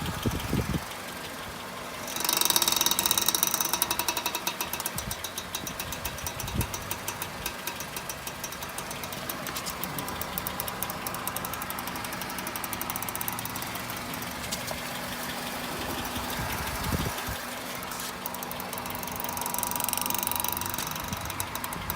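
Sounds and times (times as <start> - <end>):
car engine running: 0.0 - 21.9
rapid clicking from drive axle: 0.0 - 21.9.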